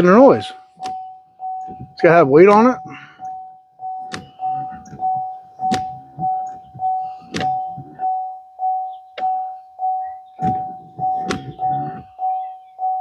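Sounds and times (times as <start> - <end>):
car warning chime pulsing: 0.0 - 13.0.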